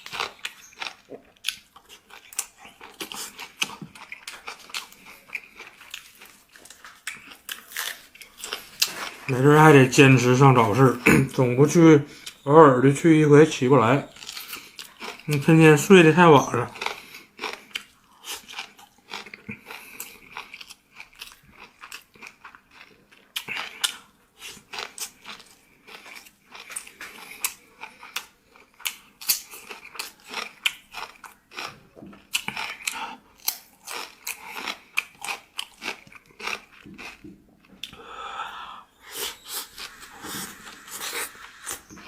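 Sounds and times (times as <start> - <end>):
person chewing crunchy food: 0.0 - 12.4, 14.0 - 42.0.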